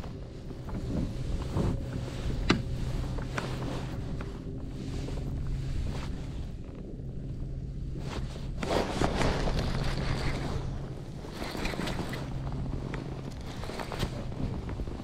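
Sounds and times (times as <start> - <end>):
steady low hum: 0.0 - 15.0
wind buffeting the microphone: 0.0 - 15.0.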